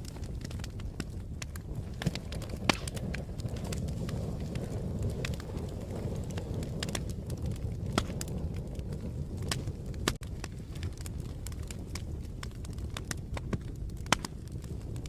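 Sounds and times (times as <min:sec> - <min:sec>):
fire crackling and popping: 0:00.0 - 0:15.0
low rumble of burning: 0:00.0 - 0:15.0.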